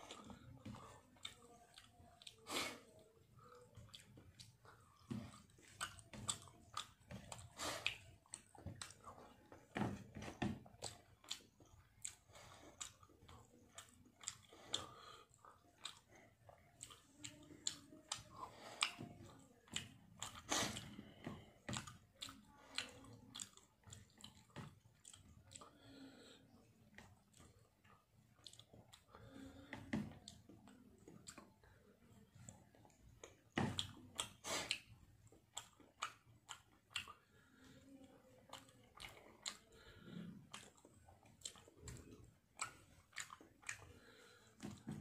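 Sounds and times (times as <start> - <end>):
person chewing and smacking lips: 0.0 - 45.0.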